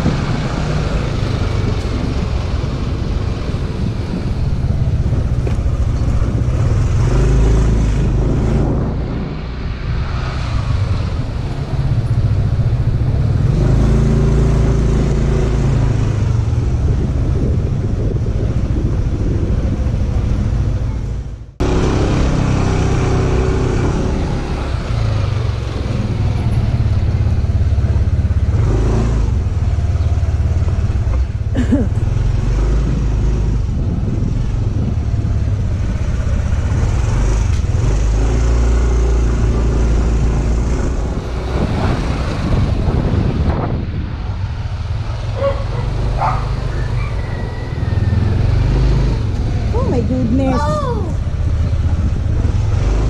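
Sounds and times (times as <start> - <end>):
motorcycle engine running: 0.0 - 53.0
wind rumble on microphone: 0.0 - 53.0.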